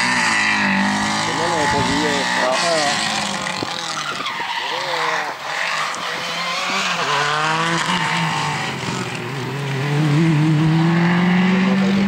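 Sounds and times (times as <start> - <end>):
rally car engines accelerating: 0.0 - 12.0.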